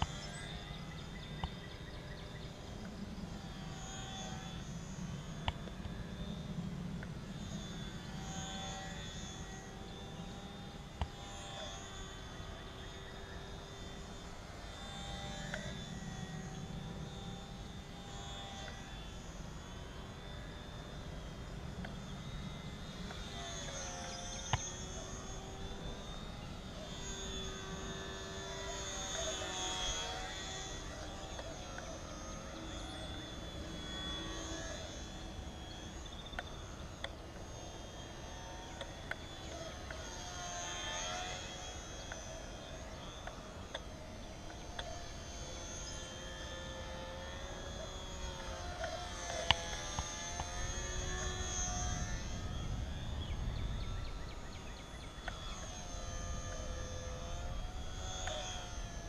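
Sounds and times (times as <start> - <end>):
model plane motor whine: 0.0 - 59.0.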